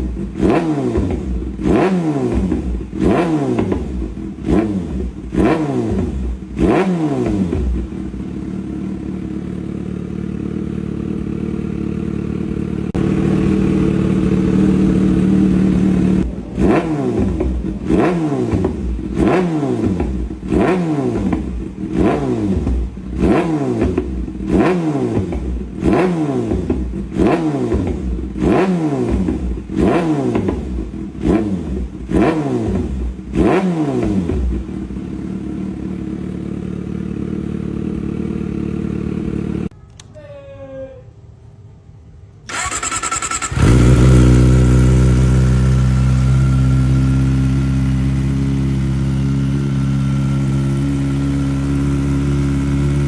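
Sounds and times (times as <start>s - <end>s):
motorbike engine revving: 0.0s - 39.7s, 42.5s - 53.0s.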